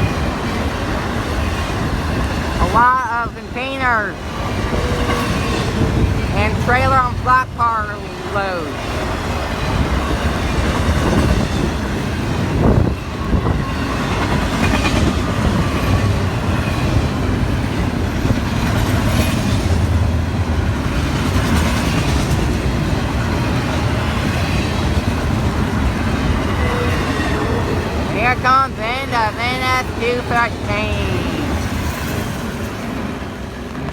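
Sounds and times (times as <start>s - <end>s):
train wheels rumbling on rail: 0.0s - 33.9s.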